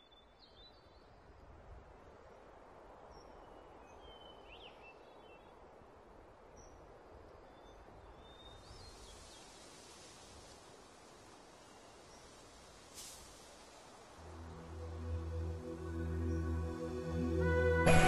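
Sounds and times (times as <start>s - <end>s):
wind hiss: 0.6s - 18.0s.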